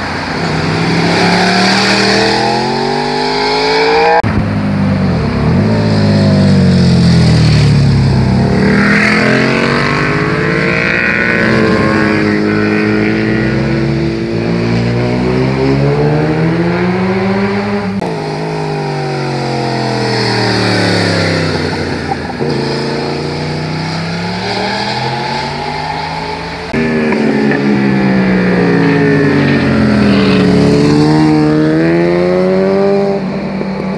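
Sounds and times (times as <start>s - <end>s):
motorcycles slowing and accelerating: 0.0s - 33.9s.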